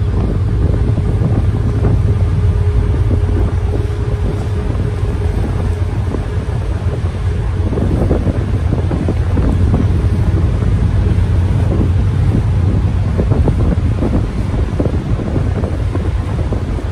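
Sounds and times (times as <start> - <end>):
churning wake: 0.0 - 16.9
ship engine rumble: 0.0 - 16.9
wind on microphone: 0.0 - 16.9.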